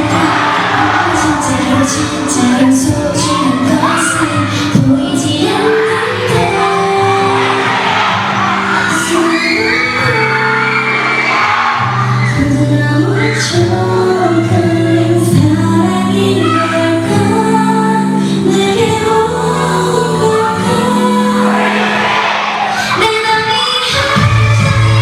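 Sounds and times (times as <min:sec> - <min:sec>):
female voices singing in harmony: 0:00.0 - 0:25.0
pop song over sound system: 0:00.0 - 0:25.0.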